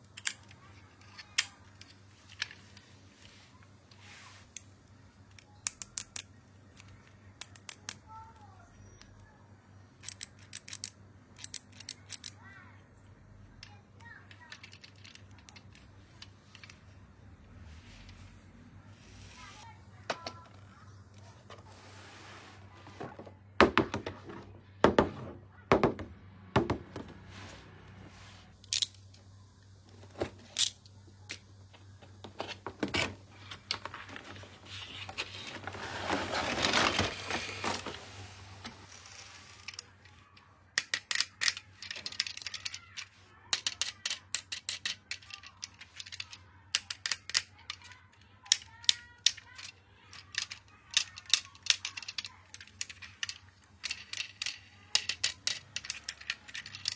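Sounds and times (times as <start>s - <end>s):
plastic toys clicking and knocking: 0.0s - 3.0s, 3.8s - 9.3s, 9.9s - 12.7s, 13.5s - 17.0s, 19.4s - 21.6s, 23.0s - 27.2s, 28.5s - 29.2s, 29.9s - 56.9s.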